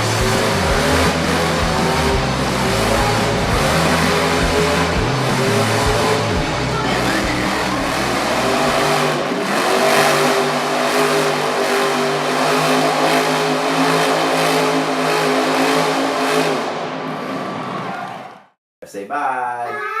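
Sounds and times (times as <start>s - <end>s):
truck engine revving high: 0.0s - 18.6s.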